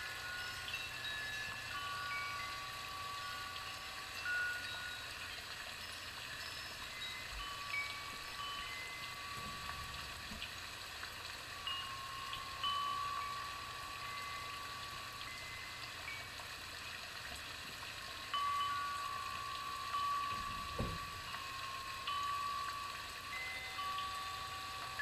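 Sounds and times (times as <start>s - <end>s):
soft chime-like music: 0.0s - 25.0s.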